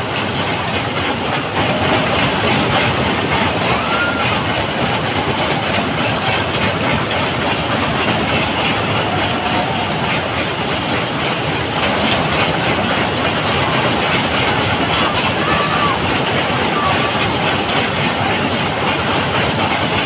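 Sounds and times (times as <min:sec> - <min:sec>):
fairground ride rumbling: 0:00.0 - 0:20.0.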